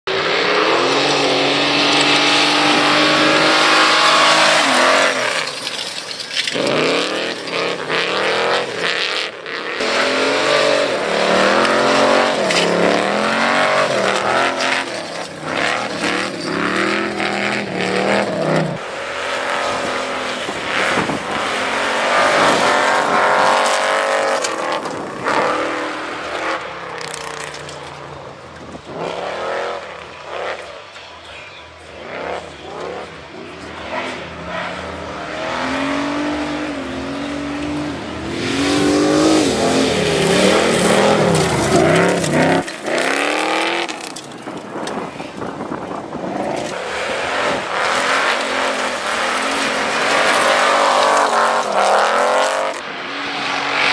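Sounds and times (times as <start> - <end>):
car engine revving: 0.1 - 30.8, 31.8 - 53.9
tyres skidding on dirt: 0.1 - 53.9.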